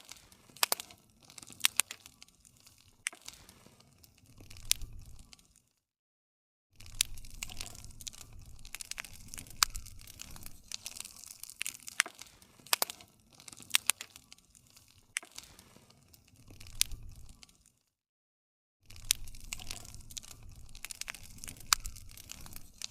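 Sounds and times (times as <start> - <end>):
campfire crackling: 0.0 - 5.7, 6.8 - 17.8, 18.9 - 22.9.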